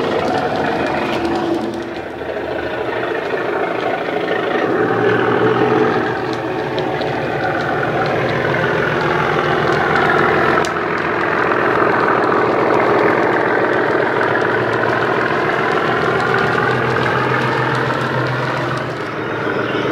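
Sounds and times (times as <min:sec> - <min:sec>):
model diesel engine sound: 0:00.0 - 0:19.9.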